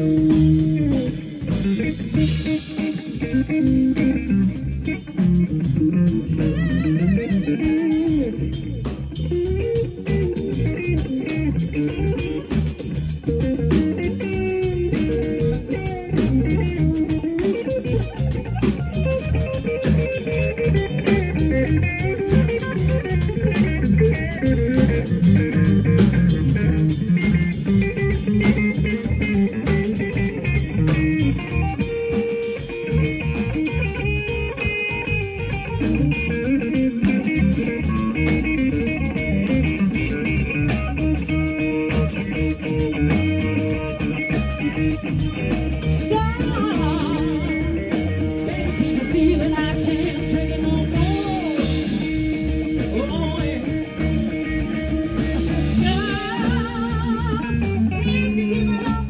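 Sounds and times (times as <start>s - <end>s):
bass guitar: 0.0s - 59.0s
drums: 0.0s - 59.0s
electric guitar lead: 0.0s - 59.0s.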